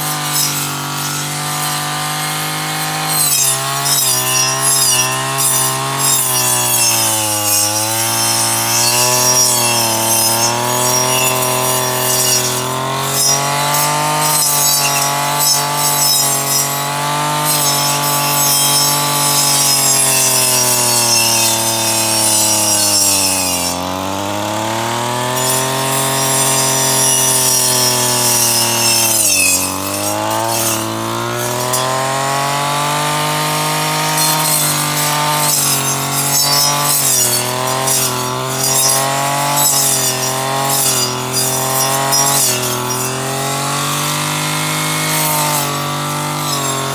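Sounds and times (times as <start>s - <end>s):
brush cutter mowing grass: 0.0s - 46.9s.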